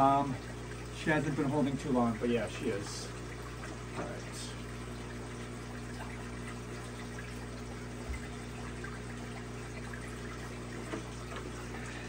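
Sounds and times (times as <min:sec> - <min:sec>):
low filter hum: 0:00.0 - 0:12.0
water trickling: 0:00.0 - 0:12.0.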